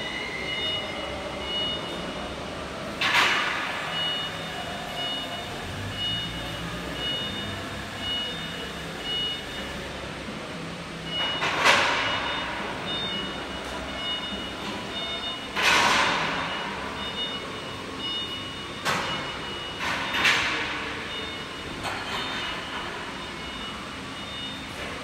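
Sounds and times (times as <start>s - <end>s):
high warning beeps: 0.0s - 10.0s, 11.0s - 25.0s.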